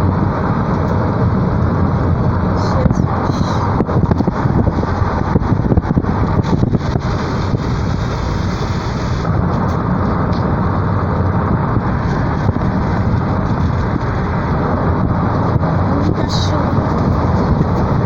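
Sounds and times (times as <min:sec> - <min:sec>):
car road and wind noise: 0:00.0 - 0:18.0.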